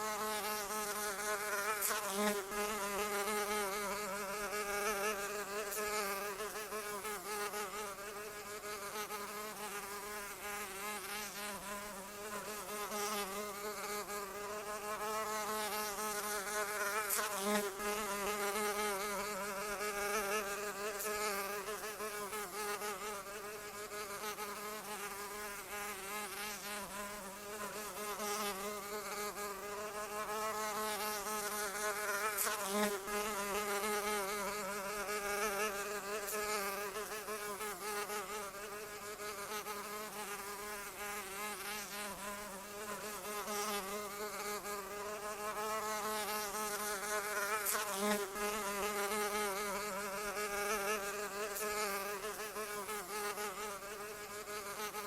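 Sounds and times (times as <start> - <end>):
insect wings buzzing: 0.0 - 55.0.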